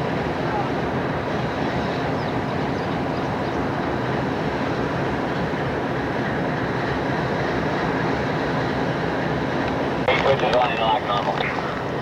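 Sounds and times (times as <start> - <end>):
diesel locomotive engine drone: 0.0 - 12.0
rail and wheel rumble: 0.0 - 12.0.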